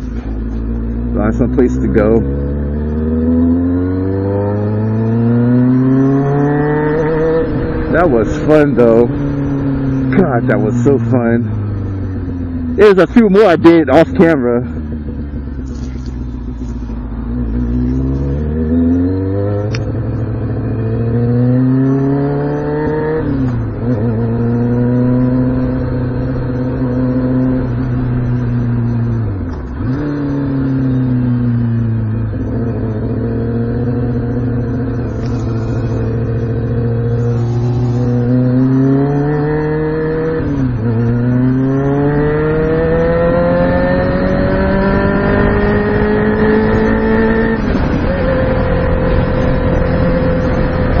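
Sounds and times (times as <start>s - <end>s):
motorcycle engine accelerating hard: 0.0s - 51.0s.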